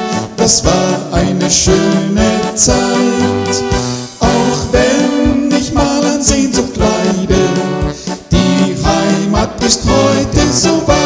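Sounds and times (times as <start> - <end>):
song with held chords and steady beat: 0.0 - 11.0.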